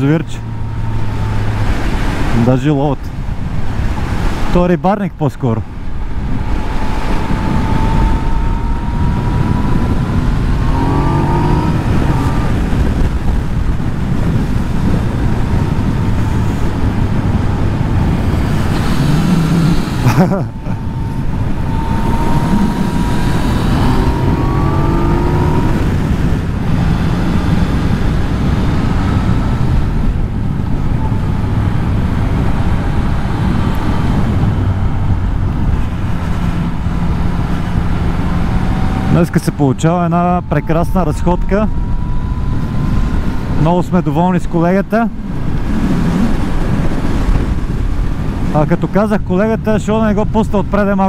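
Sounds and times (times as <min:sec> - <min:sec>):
road noise: 0:00.0 - 0:51.0
wind noise: 0:00.0 - 0:51.0.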